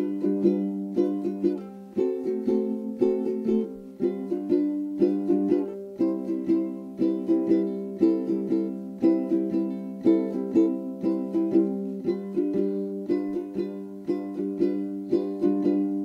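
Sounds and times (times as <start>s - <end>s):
plucked string music: 0.0s - 16.0s.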